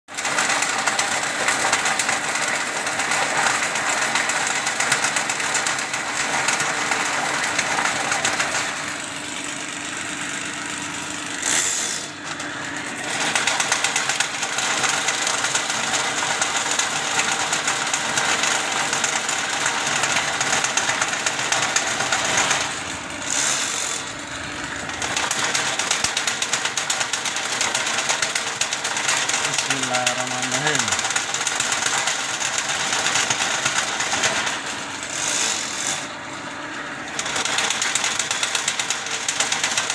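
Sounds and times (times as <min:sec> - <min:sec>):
drain-cleaning machine clattering: 0:00.1 - 0:39.9.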